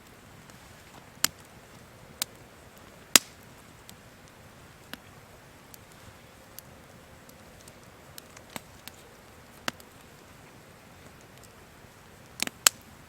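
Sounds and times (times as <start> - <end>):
campfire crackling: 0.0 - 13.0
faint steady hiss: 0.0 - 13.0.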